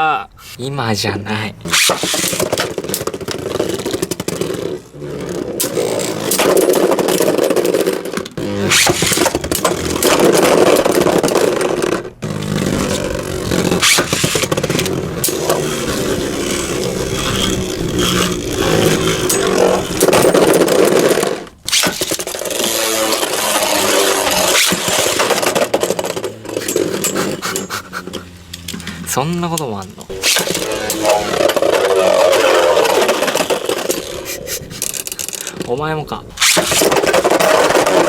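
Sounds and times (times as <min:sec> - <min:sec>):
spinning tops whirring and grinding: 0:01.6 - 0:35.7, 0:36.4 - 0:38.0.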